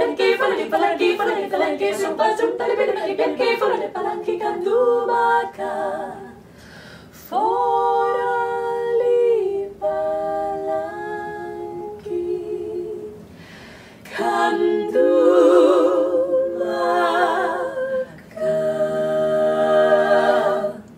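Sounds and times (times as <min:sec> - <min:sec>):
women singing in harmony: 0:00.0 - 0:06.5, 0:07.2 - 0:13.4, 0:14.0 - 0:20.9.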